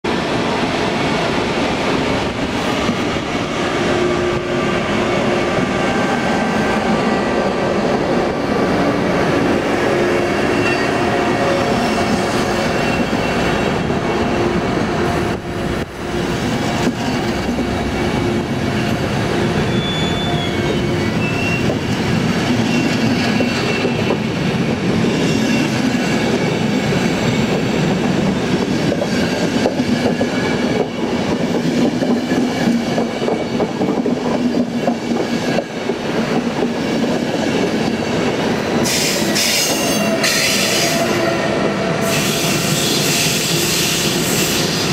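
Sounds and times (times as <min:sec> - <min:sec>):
high-pitched train sound: 0:00.1 - 0:44.9
train coaches rolling past: 0:00.1 - 0:44.9.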